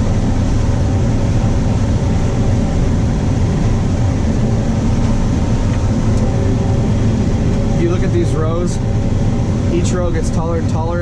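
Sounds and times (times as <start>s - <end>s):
combine harvester droning: 0.0s - 11.0s.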